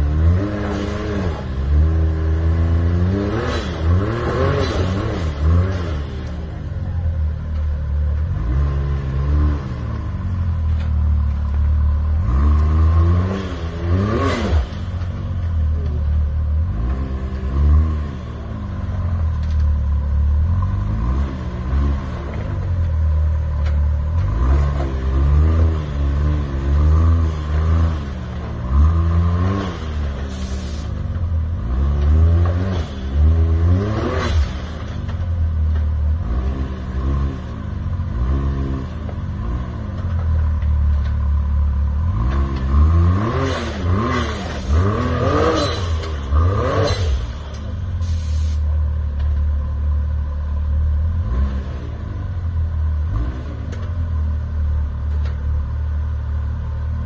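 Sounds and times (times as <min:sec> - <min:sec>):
engine revving under load: 0:00.0 - 0:06.7, 0:08.2 - 0:19.8, 0:20.4 - 0:49.4, 0:50.6 - 0:54.4.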